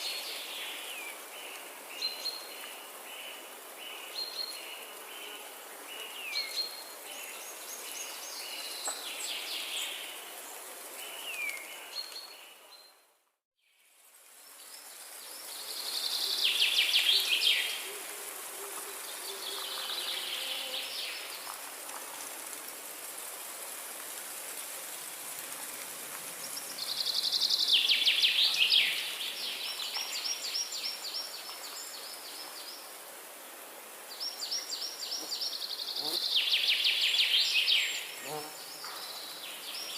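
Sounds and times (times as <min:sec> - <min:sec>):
steady background hiss: 0:00.0 - 0:12.8, 0:13.7 - 0:39.9.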